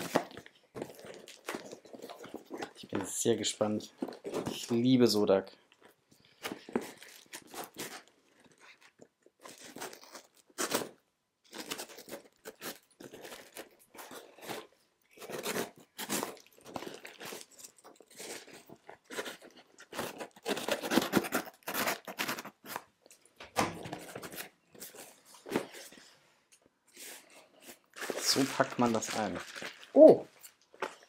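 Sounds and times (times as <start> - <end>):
packing material crinkling and tearing: 0.0 - 23.3, 26.9 - 31.0.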